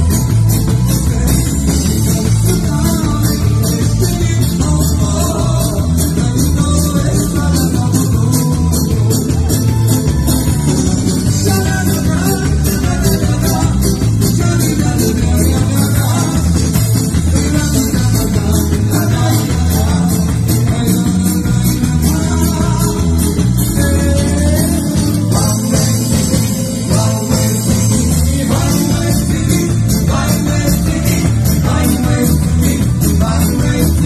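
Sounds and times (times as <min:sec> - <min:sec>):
bass and electric guitar: 0:00.0 - 0:34.0
drum kit with cymbals: 0:00.0 - 0:34.0
man singing into a microphone: 0:00.0 - 0:34.0.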